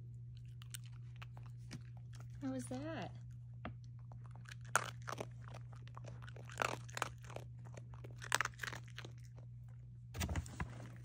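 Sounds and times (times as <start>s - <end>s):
dog crunching dry kibble: 0.1s - 11.0s.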